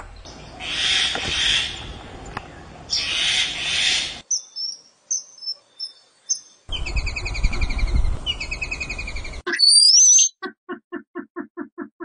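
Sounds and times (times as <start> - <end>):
birds calling: 0.0 - 11.7.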